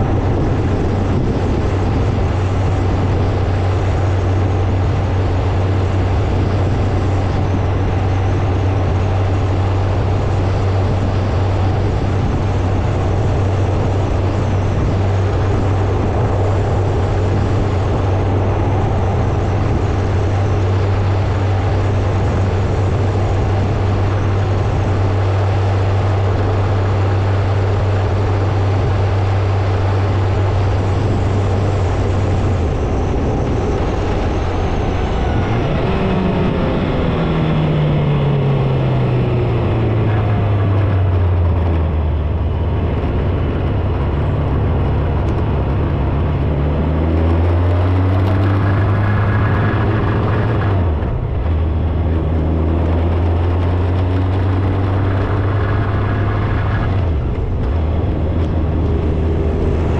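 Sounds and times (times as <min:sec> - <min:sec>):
motorcycle engine drone: 0:00.0 - 0:59.9
wind and road rushing: 0:00.0 - 0:59.9.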